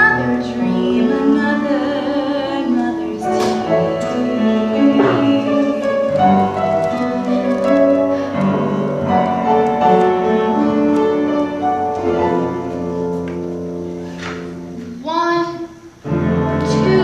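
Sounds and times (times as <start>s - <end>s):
piano playing held chords: 0.0s - 17.0s.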